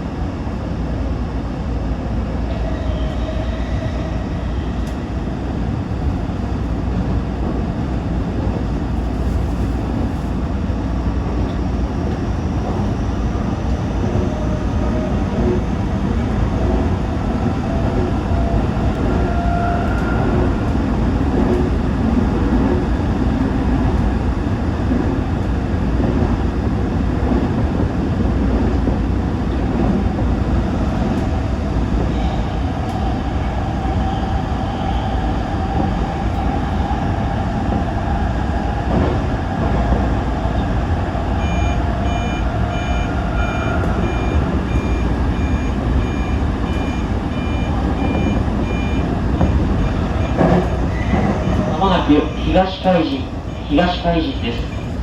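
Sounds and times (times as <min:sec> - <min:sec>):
train wheels rumbling: 0:02.2 - 0:55.0.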